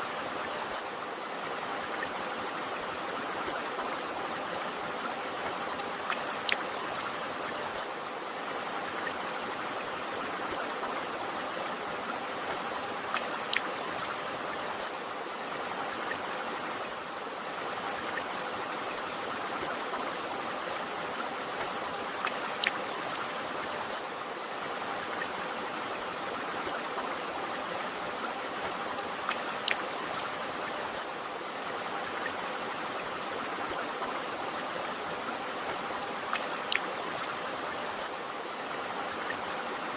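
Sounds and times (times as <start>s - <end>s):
river water flowing: 0.0s - 39.9s
water splashes and drips: 0.0s - 39.9s.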